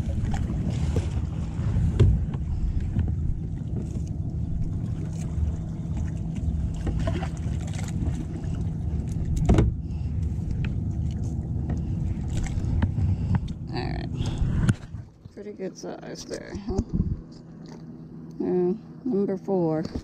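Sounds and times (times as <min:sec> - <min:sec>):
low rumble: 0:00.0 - 0:20.0.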